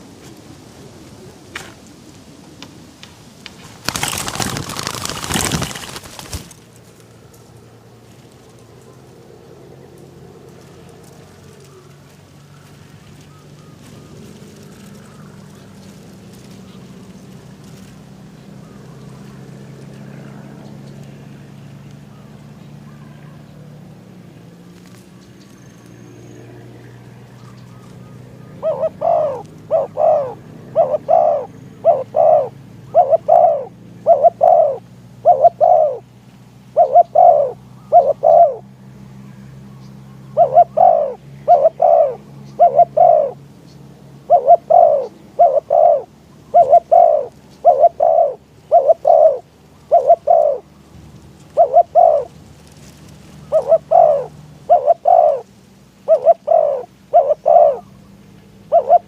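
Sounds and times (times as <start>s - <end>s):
dove cooing: 8.5s - 24.1s, 26.4s - 59.0s.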